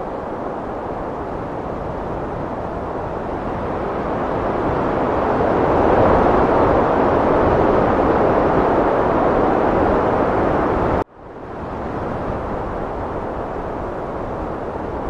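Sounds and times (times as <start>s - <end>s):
heavy wind blowing: 0.0s - 15.0s.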